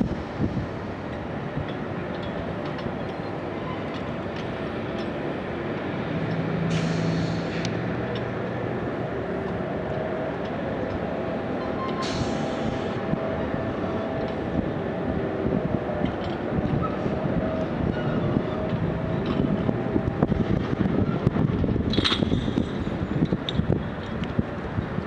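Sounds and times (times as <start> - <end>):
crane machinery drone: 0.0 - 25.0
low hum: 0.0 - 25.0.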